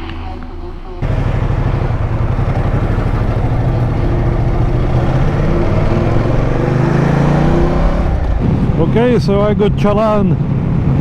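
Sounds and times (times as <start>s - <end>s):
constant rushing noise: 0.0s - 11.0s
motorcycle engine running: 0.0s - 11.0s.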